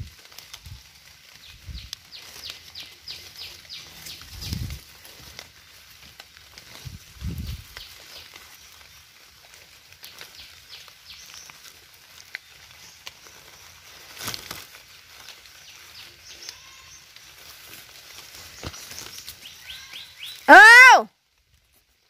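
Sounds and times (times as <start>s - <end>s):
rustling of leaves: 0.0s - 22.0s.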